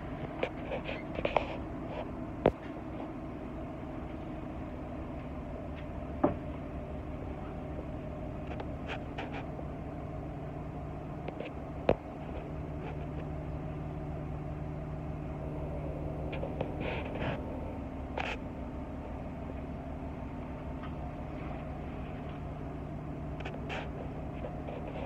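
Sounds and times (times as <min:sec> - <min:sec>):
bus running hum: 0:00.0 - 0:25.0.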